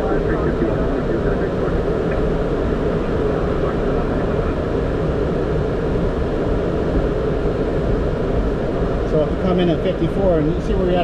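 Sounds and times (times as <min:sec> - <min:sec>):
jet engines idling in cockpit: 0:00.0 - 0:11.0.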